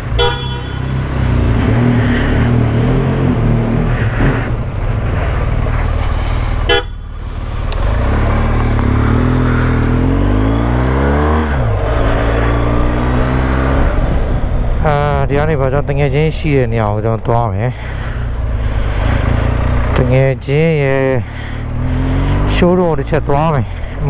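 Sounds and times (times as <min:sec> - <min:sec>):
motorcycle engine accelerating: 0:00.0 - 0:16.7, 0:17.9 - 0:24.0
wind and road noise: 0:00.0 - 0:24.0.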